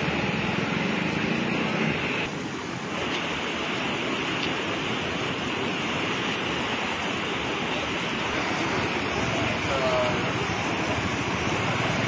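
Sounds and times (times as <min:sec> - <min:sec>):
floodwater rushing through channel: 0:00.0 - 0:12.0.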